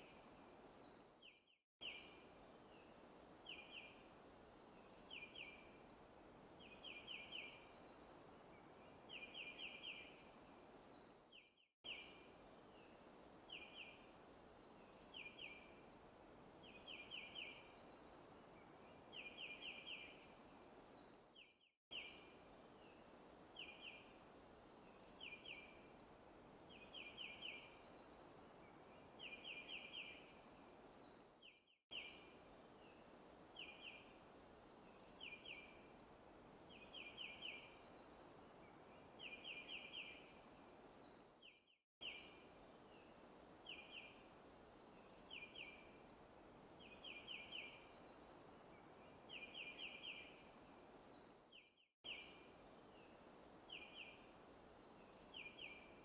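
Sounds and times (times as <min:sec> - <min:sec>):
soft steady hiss: 0:00.0 - 0:56.0.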